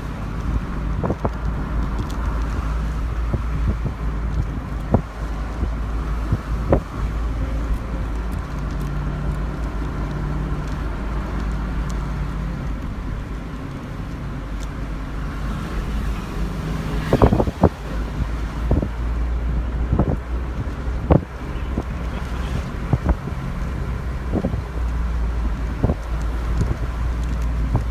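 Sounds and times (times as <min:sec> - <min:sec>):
gusts thumping microphone: 0:00.0 - 0:27.9
low rumble of vehicle and road: 0:00.0 - 0:27.9
wind buffeting microphone: 0:00.0 - 0:27.9.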